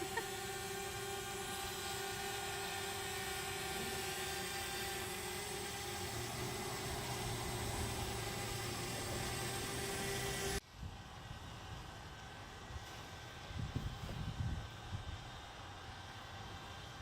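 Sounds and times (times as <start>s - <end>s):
machine drone: 0.0s - 13.9s.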